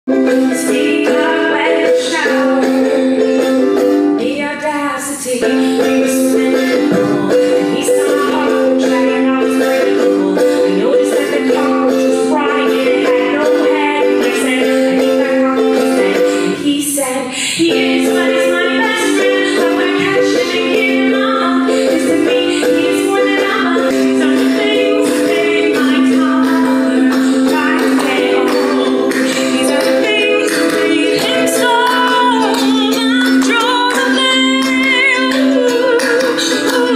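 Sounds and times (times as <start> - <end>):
ukulele strumming: 0.1 - 36.9
woman singing: 0.1 - 36.9.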